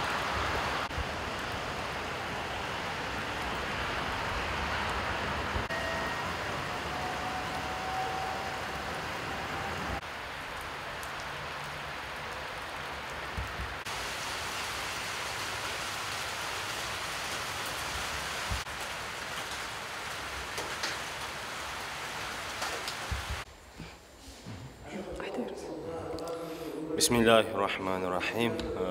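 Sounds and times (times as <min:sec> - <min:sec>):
rain falling: 0:00.0 - 0:23.7.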